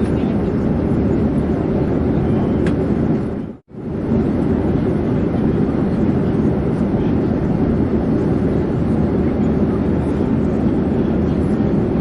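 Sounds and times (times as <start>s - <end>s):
airplane droning in flight: 0.0s - 12.0s.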